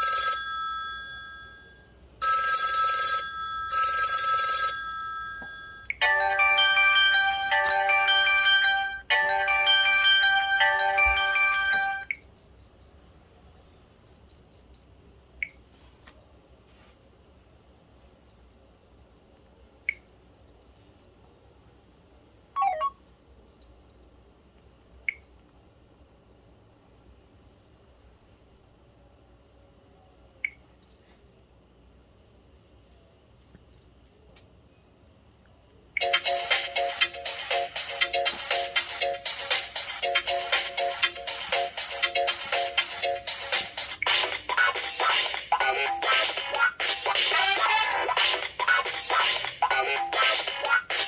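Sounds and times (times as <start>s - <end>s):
electronic chirping ringtone: 0.0s - 13.1s, 14.1s - 16.8s, 18.3s - 21.6s, 22.6s - 32.2s, 36.0s - 51.0s.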